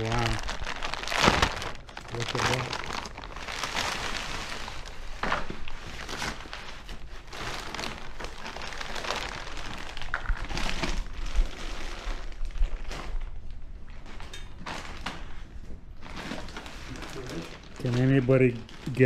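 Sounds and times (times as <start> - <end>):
plastic wrap and paper crinkling: 0.0 - 19.0.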